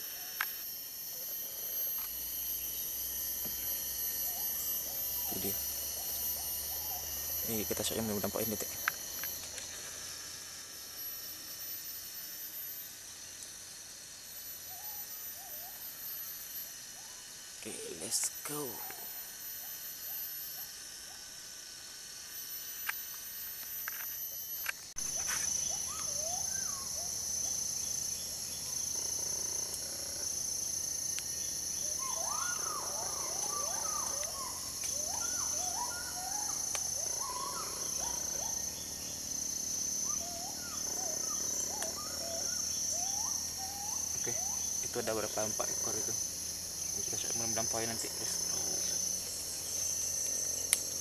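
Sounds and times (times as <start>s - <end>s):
insects trilling: 0.0s - 51.0s.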